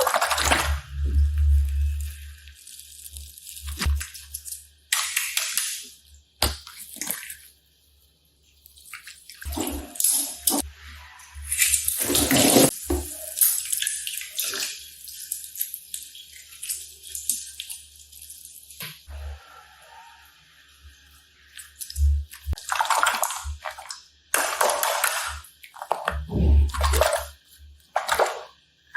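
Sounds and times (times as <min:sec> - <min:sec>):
slime squelching: 0:00.0 - 0:07.6, 0:08.5 - 0:19.6, 0:20.9 - 0:28.9.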